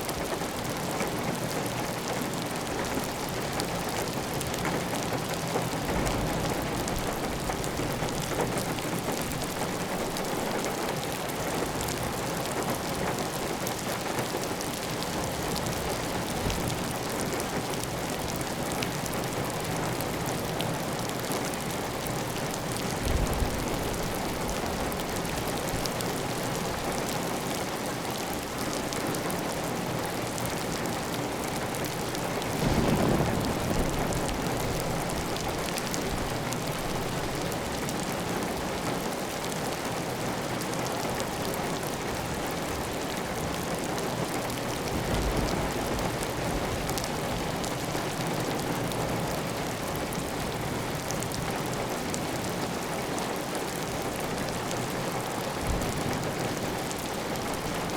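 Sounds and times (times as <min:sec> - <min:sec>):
heavy rain on a tile roof: 0:00.0 - 0:57.9.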